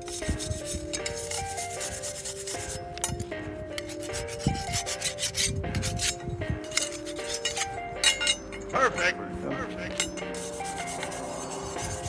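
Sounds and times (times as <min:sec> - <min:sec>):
hand scraper rasping on metal blade: 0:00.0 - 0:08.6, 0:10.0 - 0:12.0
background music melody: 0:00.0 - 0:12.0.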